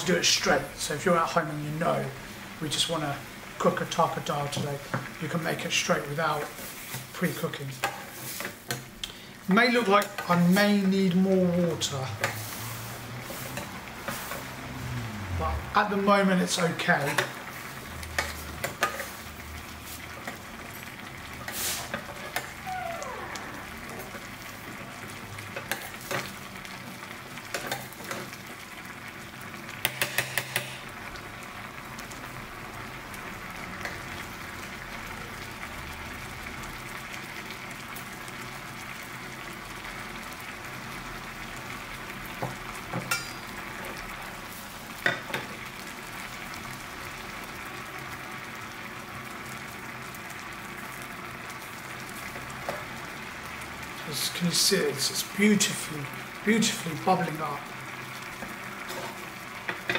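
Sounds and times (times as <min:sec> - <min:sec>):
dal bubbling in a saucepan: 0:00.0 - 0:59.9.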